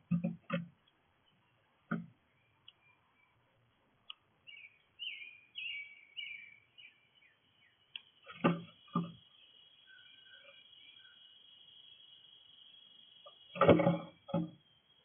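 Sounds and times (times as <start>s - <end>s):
songbird chirping: 0.1s - 15.0s.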